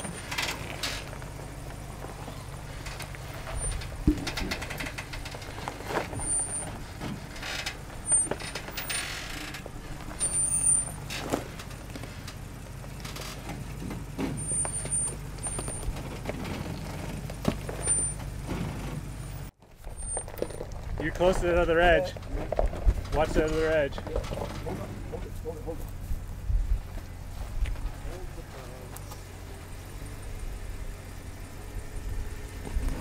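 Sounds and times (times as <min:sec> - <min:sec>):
tires crunching over rock: 0:00.0 - 0:33.0
truck engine running low: 0:00.0 - 0:33.0.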